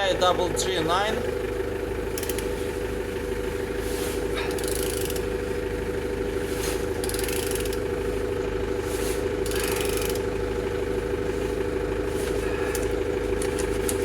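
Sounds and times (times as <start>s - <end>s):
engine cranking rasps: 0.0s - 14.0s
mechanical hum: 0.0s - 14.0s.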